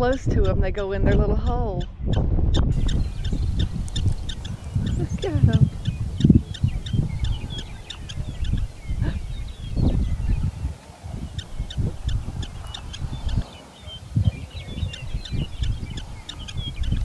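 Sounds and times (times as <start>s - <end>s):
prairie dogs chirping: 0.0s - 17.0s
wind rumble on microphone: 0.0s - 17.0s.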